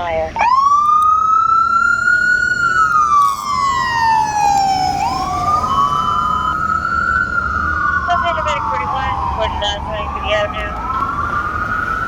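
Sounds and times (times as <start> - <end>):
fire truck sirens wailing: 0.0 - 12.0
low engine rumble: 0.0 - 12.0.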